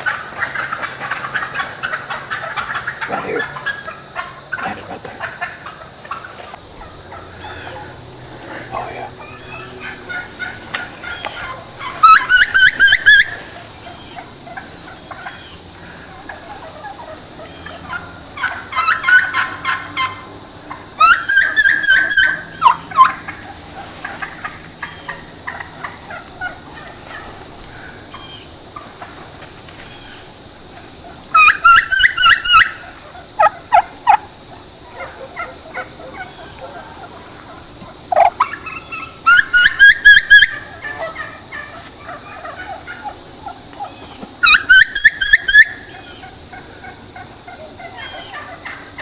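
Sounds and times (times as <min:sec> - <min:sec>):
wild turkeys yelping: 0:00.0 - 0:49.0.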